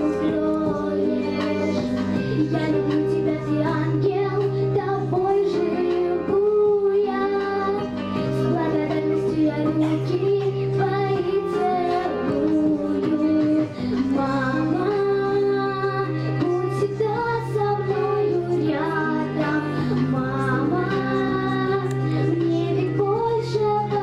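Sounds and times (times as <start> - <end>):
girl singing into microphone: 0.0 - 24.0
instrumental backing music: 0.0 - 24.0.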